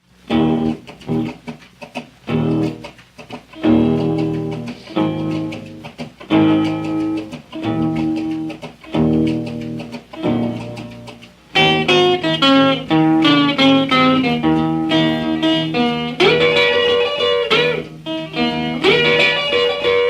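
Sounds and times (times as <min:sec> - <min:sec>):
solo blues guitar: 0:00.2 - 0:20.0.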